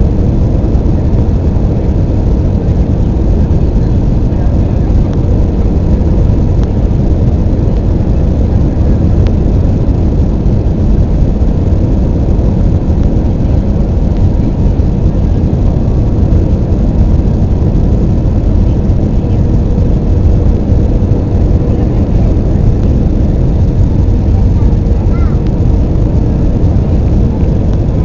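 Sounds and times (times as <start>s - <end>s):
airplane cabin engine rumble: 0.0s - 28.0s
faint steady hum: 0.0s - 28.0s.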